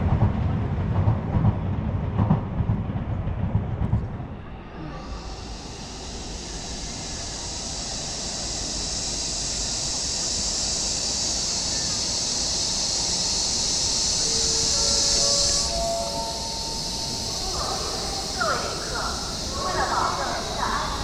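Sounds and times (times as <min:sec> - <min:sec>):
high-speed train rushing past: 0:00.0 - 0:21.0.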